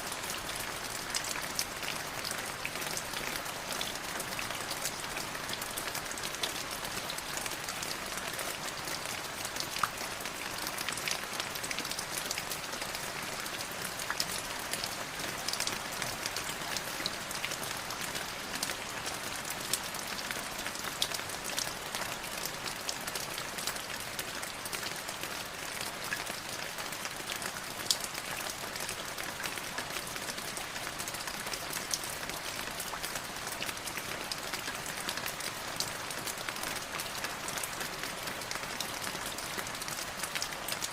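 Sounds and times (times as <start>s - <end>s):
light drizzling rain: 0.0s - 40.9s
raindrops pattering on a surface: 0.1s - 40.9s.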